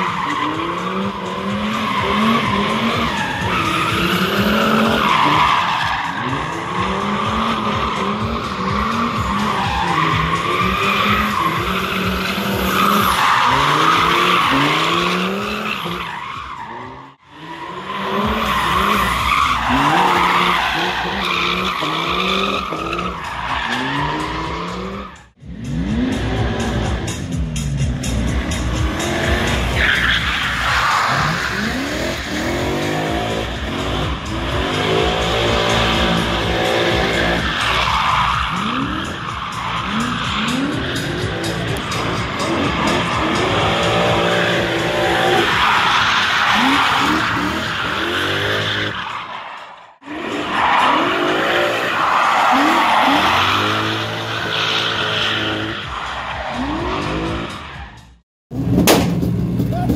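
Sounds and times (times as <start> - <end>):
tyres squealing and skidding: 0.0 - 58.2
car engine revving: 0.0 - 59.8.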